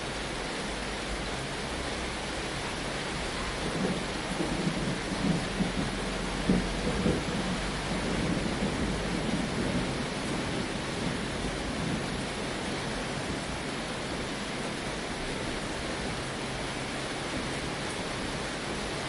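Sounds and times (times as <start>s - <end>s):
rain on a tin roof: 0.0s - 19.0s
low thunder rumble: 3.2s - 19.0s.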